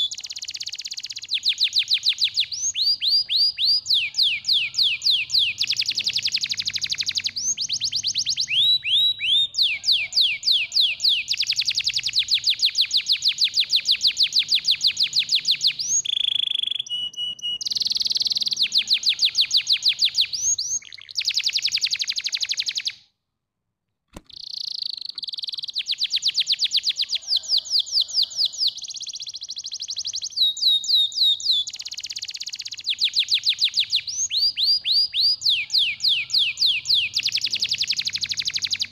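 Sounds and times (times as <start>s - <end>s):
canary singing trills: 0.0s - 23.0s, 24.3s - 38.9s.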